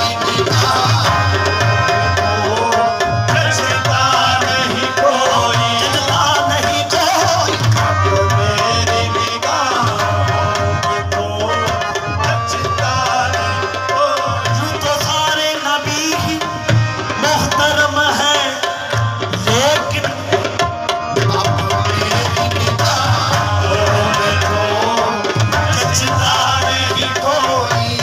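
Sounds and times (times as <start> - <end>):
tabla rhythm: 0.0 - 28.0.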